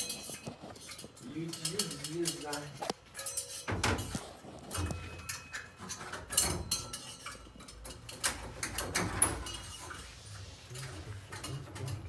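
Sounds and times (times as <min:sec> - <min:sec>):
metal tools clinking on workbench: 0:00.0 - 0:10.0.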